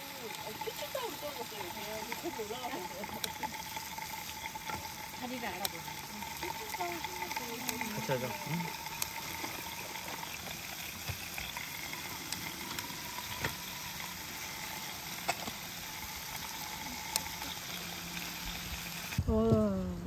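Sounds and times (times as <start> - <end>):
meat sizzling on a grill pan: 0.0 - 19.2.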